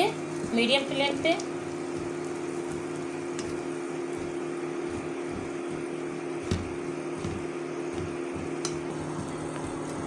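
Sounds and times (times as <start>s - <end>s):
induction cooktop hum: 0.0s - 10.0s.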